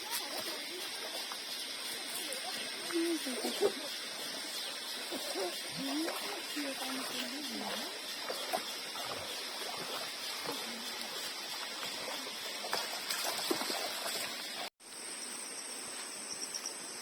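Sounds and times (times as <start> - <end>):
rushing water: 0.0 - 14.7.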